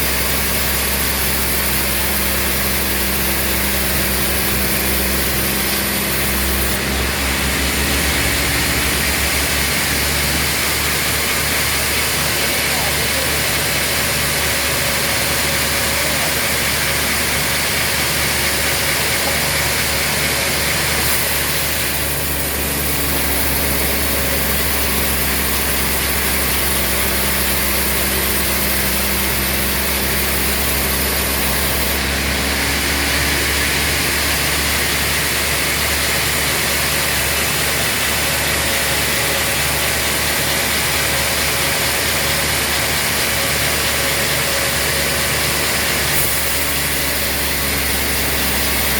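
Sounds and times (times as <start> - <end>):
sawmill machinery running: 0.0 - 48.9
steady hum: 0.0 - 48.9.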